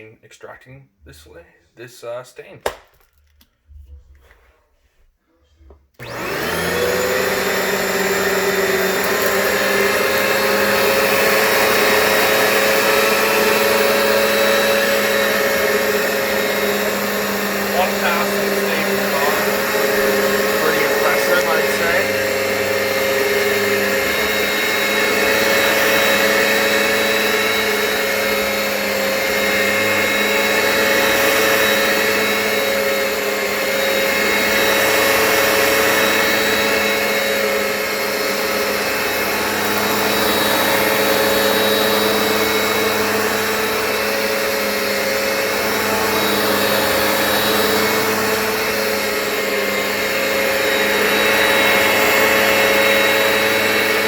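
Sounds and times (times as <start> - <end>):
carpet cleaner motor whine: 6.0 - 54.0
rushing suction noise: 6.0 - 54.0.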